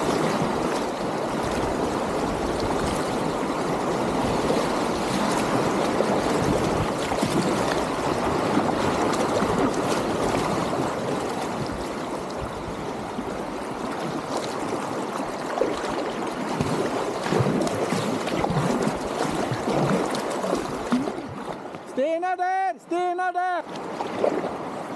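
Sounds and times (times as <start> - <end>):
river rapids rushing and splashing: 0.0 - 24.9.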